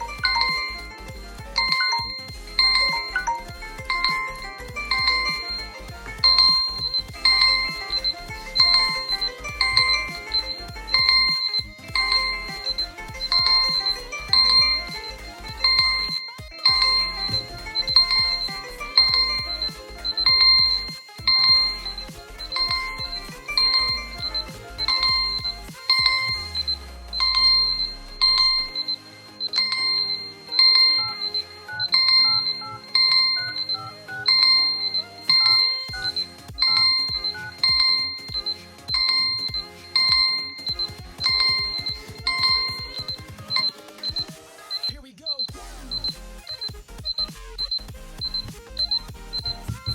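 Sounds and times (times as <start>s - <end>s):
high electronic beep: 0.0s - 49.9s
ringtone melody: 0.0s - 49.9s.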